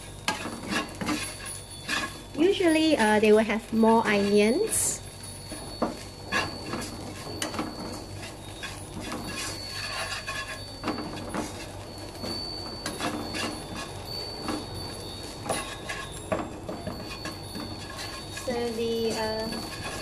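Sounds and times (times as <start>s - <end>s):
wooden spatula scraping frying pan: 0.0s - 20.0s.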